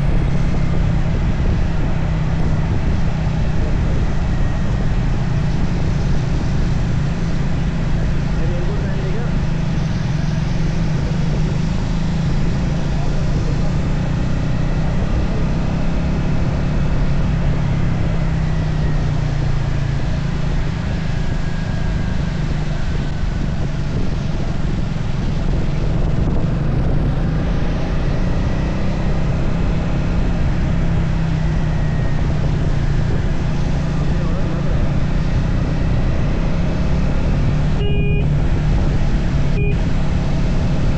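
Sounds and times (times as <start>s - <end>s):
motorcycle engine running steadily: 0.0s - 40.9s
wind and road noise: 0.0s - 40.9s.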